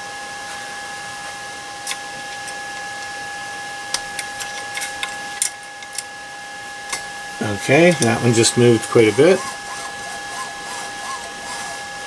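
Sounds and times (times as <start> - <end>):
high two-tone whine: 0.0 - 12.0.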